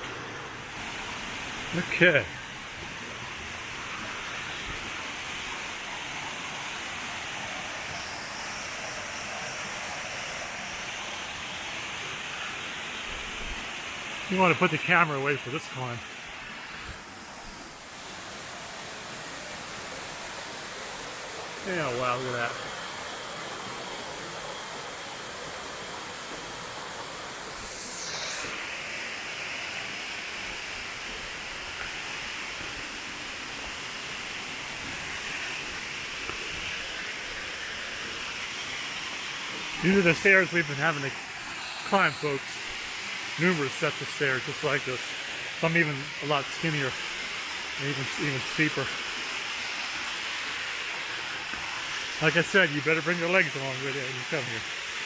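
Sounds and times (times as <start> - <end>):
waterfall and creek rushing: 0.0 - 55.0.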